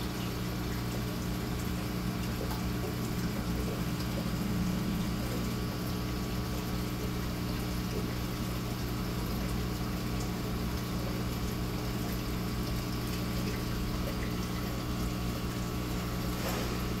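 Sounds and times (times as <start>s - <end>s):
aquarium filter pump humming: 0.0s - 17.0s.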